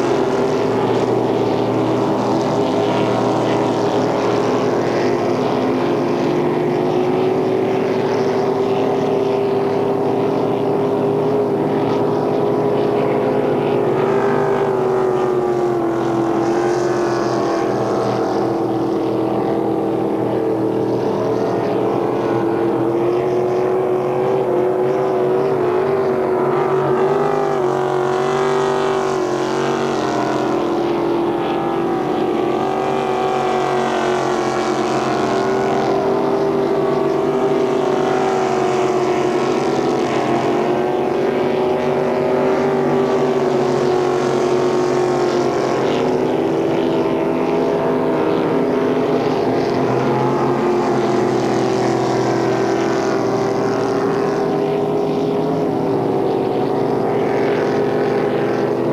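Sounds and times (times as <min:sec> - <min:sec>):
powerboat engine running hard: 0:00.0 - 0:58.9
rushing water wash: 0:00.0 - 0:58.9.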